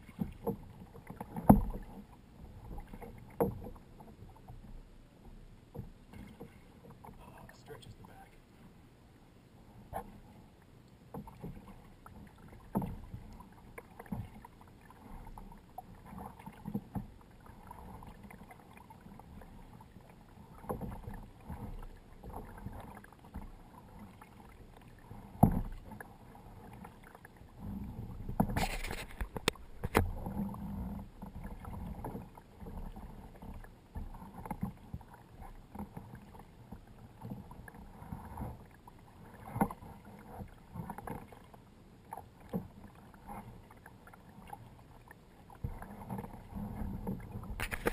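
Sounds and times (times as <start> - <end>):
kayak paddle strokes splashing: 0.0 - 8.8, 9.6 - 47.9.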